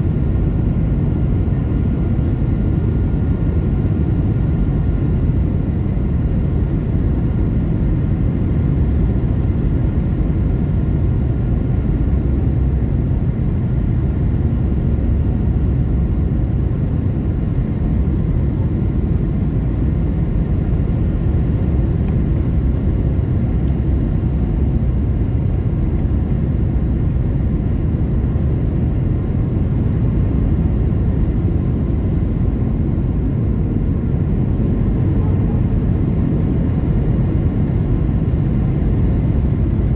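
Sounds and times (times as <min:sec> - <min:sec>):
airplane engine and airflow rumble: 0:00.0 - 0:39.9.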